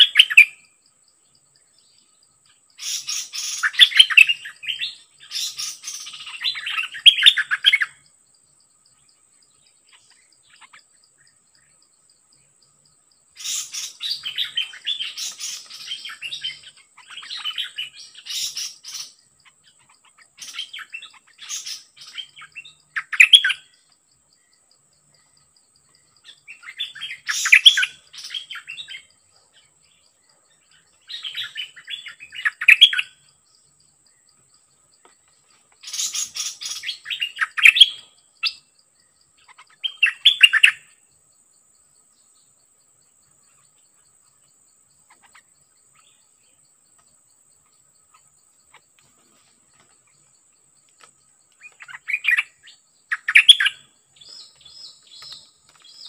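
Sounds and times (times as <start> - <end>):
high insect drone: 0.0 - 56.0
songbird chattering song: 0.0 - 56.0.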